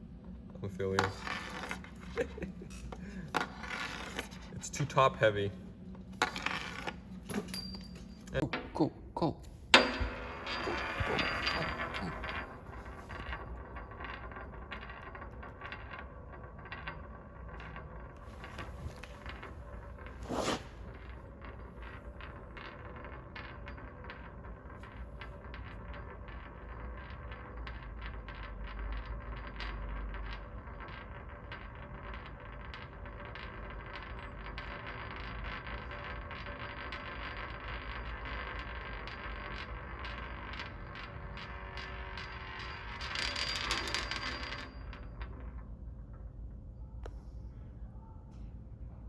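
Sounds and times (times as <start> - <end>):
metal spinning top rattling: 0.2 - 8.9, 9.6 - 46.3.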